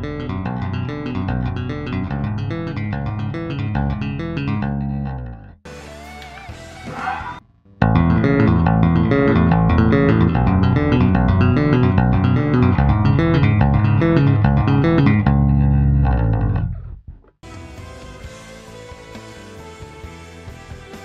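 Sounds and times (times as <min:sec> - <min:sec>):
bass guitar tapping notes: 0:00.0 - 0:05.6, 0:06.2 - 0:17.4.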